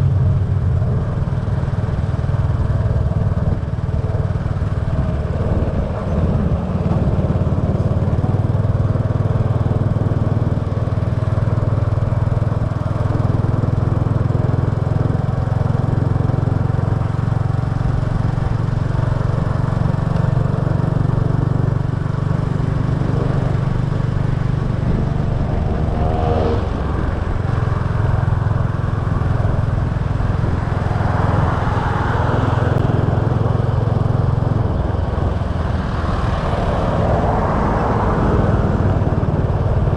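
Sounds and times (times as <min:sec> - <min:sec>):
road and wind noise: 0:00.0 - 0:39.9
small motorbike engine running: 0:00.0 - 0:39.9.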